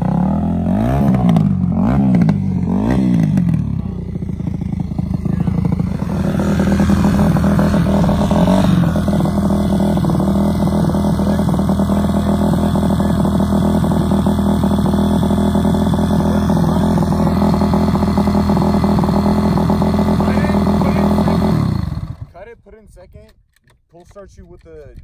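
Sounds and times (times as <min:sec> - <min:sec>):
small engine running: 0:00.0 - 0:22.4.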